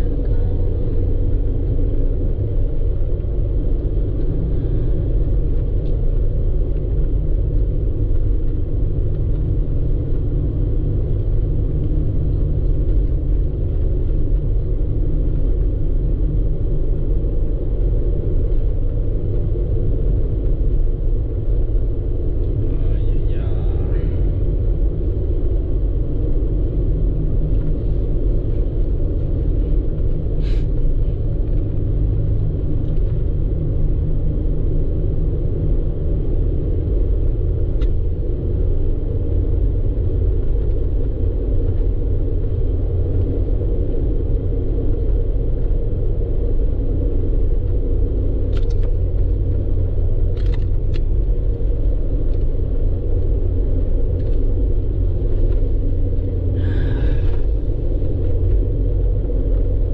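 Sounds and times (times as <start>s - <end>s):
tyre and engine rumble: 0.0s - 59.9s.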